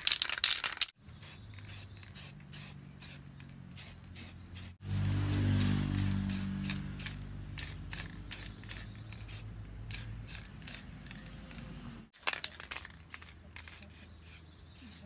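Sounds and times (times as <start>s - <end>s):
spray paint can hissing: 1.1s - 11.2s, 12.7s - 15.0s.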